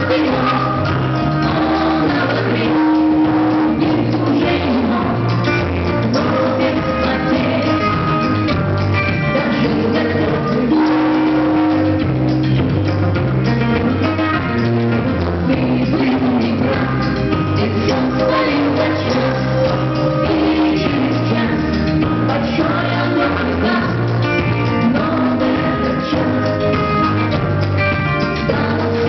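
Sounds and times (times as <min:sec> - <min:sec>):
rock music with singing: 0:00.0 - 0:29.0.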